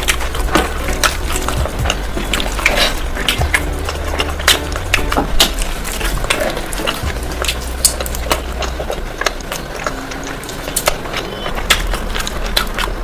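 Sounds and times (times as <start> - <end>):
low steady hum: 0.0 - 13.0
person chewing crunchy food: 0.0 - 13.0.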